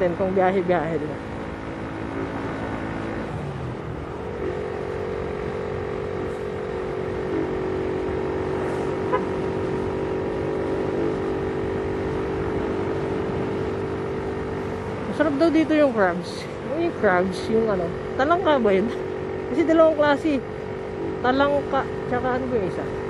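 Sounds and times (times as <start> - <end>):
road noise: 0.0 - 23.0
small motorcycle engine cruising: 0.0 - 23.0.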